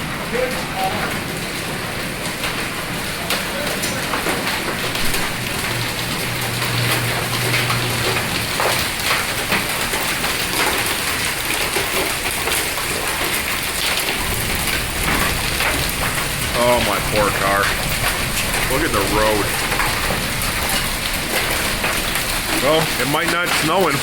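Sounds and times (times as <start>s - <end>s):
hailstones striking: 0.0s - 24.0s
heavy rain hissing: 0.0s - 24.0s.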